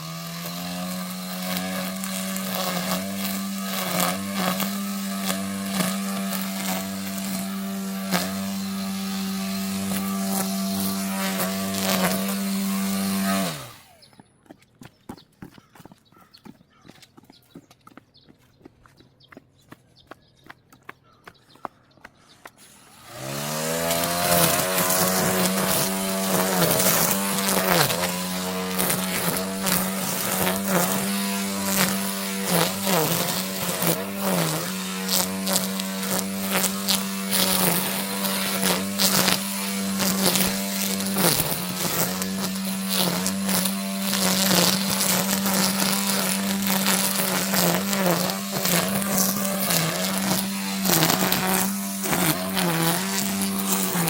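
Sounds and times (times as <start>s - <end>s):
brush cutter running: 0.0s - 14.1s, 22.6s - 54.0s.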